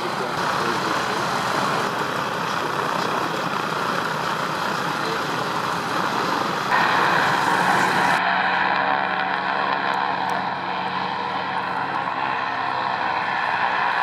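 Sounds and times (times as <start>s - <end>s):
aircraft radial engine drone: 0.0s - 14.0s.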